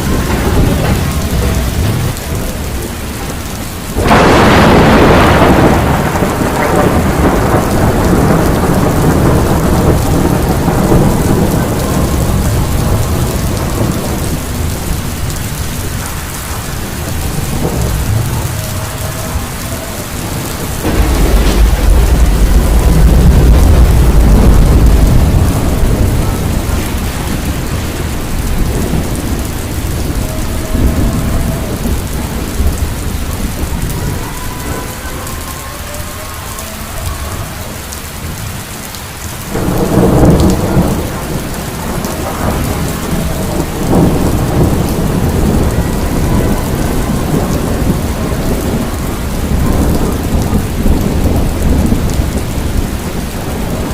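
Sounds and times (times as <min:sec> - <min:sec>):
gusting wind: 0:00.0 - 0:53.9
heavy rain: 0:00.0 - 0:53.9.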